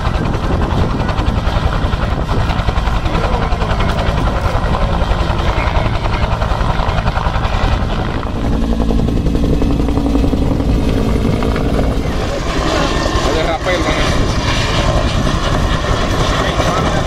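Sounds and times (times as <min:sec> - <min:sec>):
helicopter engine drone: 0:00.0 - 0:17.0
helicopter rotor chopping: 0:00.0 - 0:17.0.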